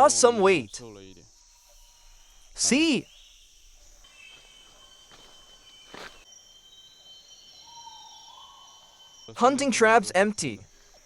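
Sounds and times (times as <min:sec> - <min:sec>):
insects high-pitched drone: 0:00.0 - 0:11.0.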